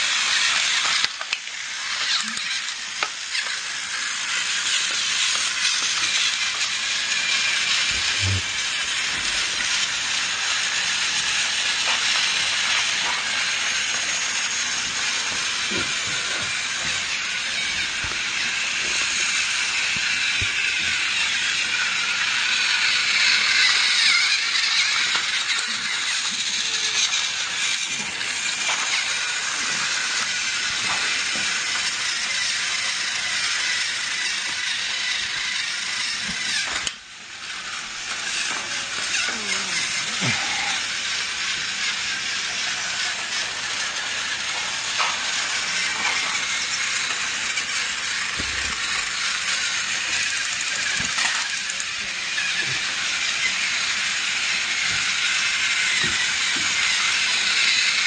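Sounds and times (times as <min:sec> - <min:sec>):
toy train whirring rattle: 0:00.0 - 0:58.0.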